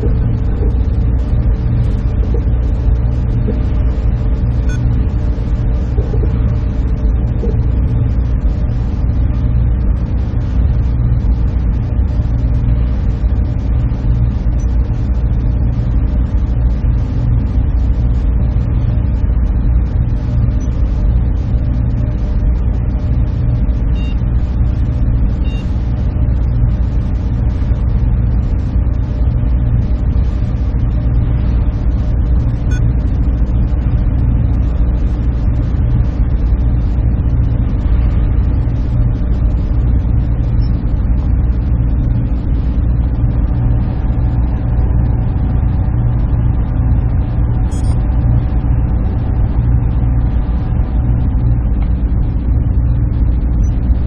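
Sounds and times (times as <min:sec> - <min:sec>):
server machine drone: 0:00.0 - 0:54.0.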